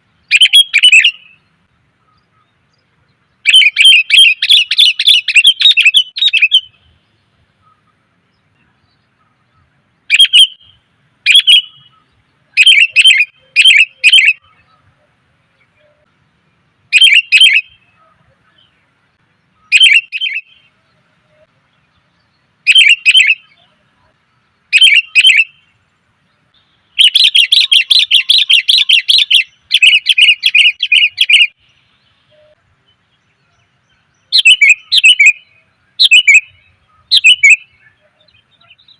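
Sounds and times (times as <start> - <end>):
bulbul chattering call: 0.2 - 16.1, 16.9 - 18.8, 19.4 - 25.8, 26.4 - 32.6, 33.2 - 38.9.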